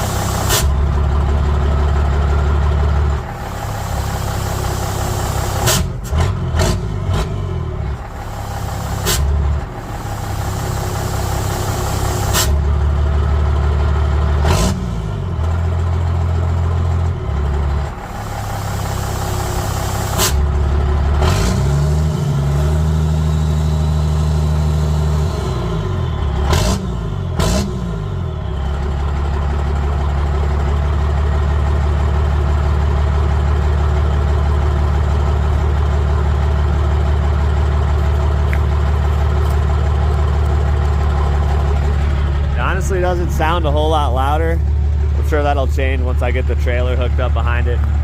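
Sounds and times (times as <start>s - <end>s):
diesel engine idling and revving: 0.0s - 48.0s.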